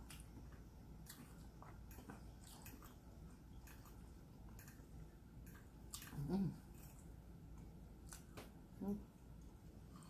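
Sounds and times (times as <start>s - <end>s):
person chewing: 0.0s - 8.5s.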